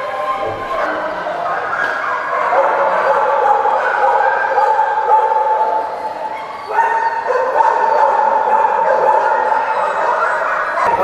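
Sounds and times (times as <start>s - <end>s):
many dogs barking and yelping: 0.0s - 11.0s.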